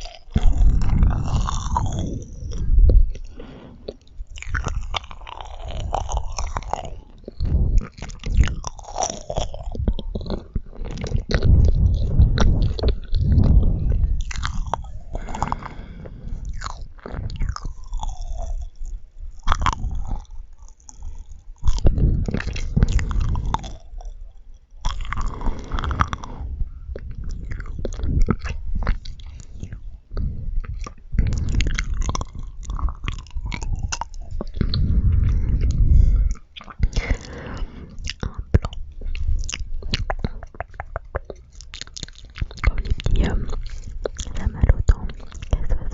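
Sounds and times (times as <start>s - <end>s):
chewing with wet mouth sounds: 0.0s - 45.9s.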